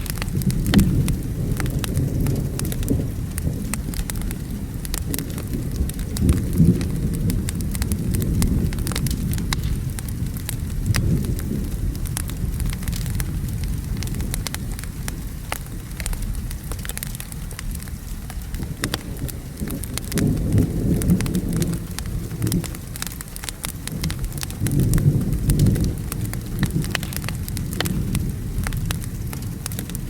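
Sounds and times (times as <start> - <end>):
low thunder rumble: 0.0 - 30.0
steady rain: 0.0 - 30.0
wood fire crackling and popping: 0.0 - 30.0.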